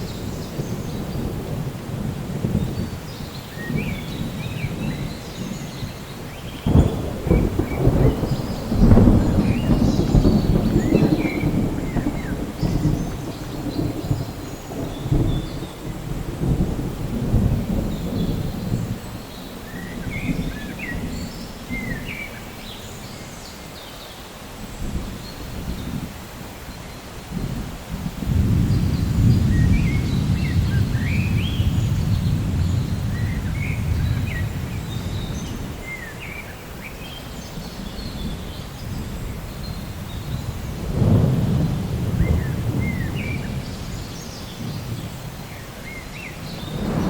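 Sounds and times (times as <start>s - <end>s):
thunder crack and rumble: 0.0s - 22.3s, 27.3s - 36.4s, 37.4s - 47.0s
steady rain: 0.0s - 47.0s.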